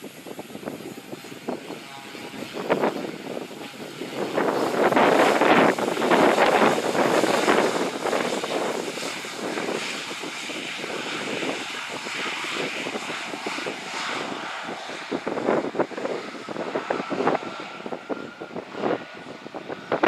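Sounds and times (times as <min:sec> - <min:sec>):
turboprop engines at takeoff power: 0:00.0 - 0:20.0.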